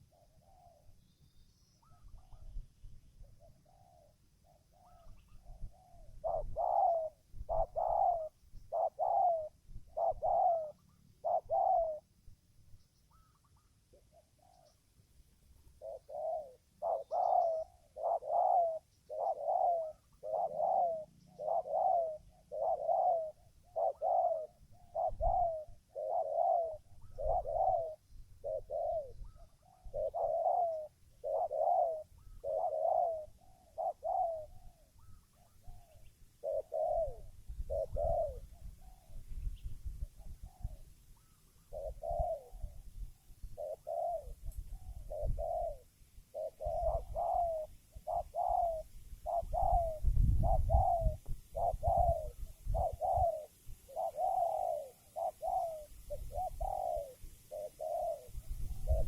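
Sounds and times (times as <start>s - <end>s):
dove cooing: 0.0s - 1.0s, 1.8s - 12.2s, 13.1s - 59.0s.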